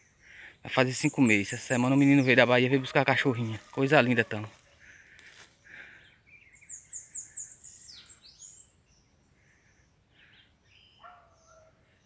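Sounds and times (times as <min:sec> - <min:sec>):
faint wild bird calls: 0:00.0 - 0:12.0.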